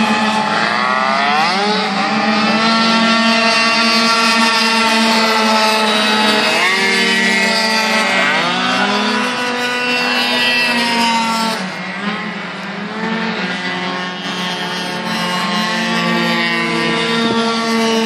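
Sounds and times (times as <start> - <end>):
scooter engines revving: 0.0 - 18.0.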